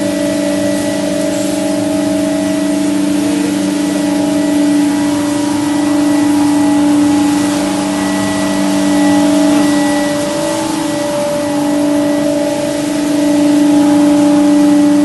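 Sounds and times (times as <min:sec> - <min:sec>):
spice grinder machine humming: 0:00.0 - 0:15.0.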